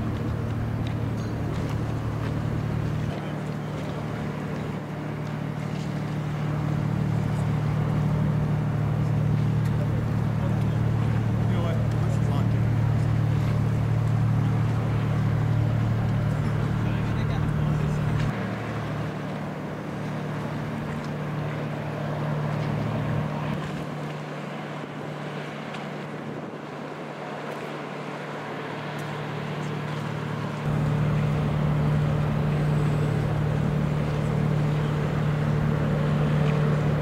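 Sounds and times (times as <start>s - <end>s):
boat engine droning: 0.0s - 37.0s.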